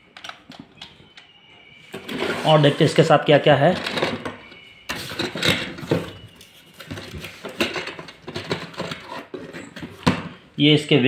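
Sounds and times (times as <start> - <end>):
plastic toy parts in cardboard box: 0.1 - 10.2.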